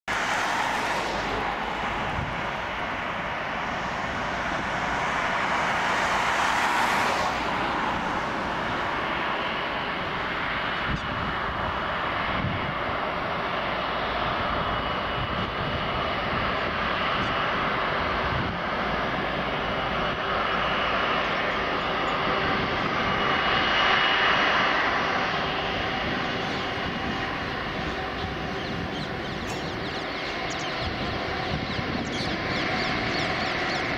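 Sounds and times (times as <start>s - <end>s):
jet engines at takeoff thrust: 0.0s - 33.9s.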